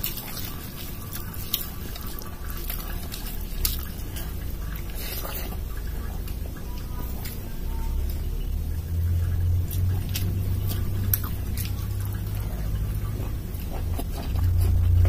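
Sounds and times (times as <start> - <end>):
low steady rumble: 0.0 - 15.0
wet squishing of food eaten by hand: 0.0 - 15.0.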